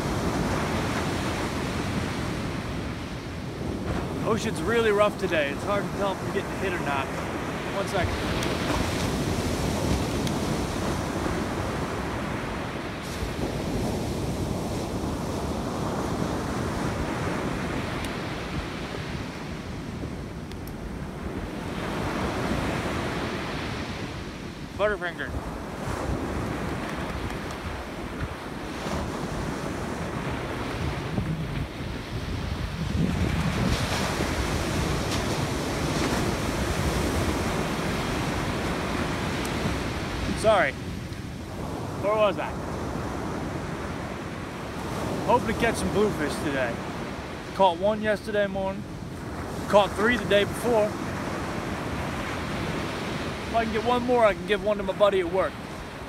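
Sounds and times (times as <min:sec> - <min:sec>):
waves breaking on beach: 0:00.0 - 0:56.0
wind rumbling on microphone: 0:00.0 - 0:56.0.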